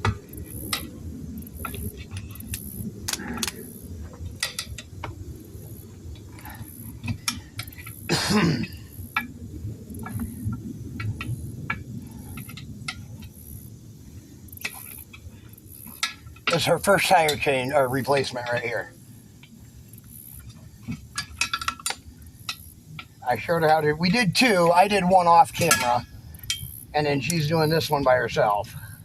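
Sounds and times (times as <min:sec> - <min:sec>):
tire irons clinking on wheel rim: 0:00.0 - 0:29.0.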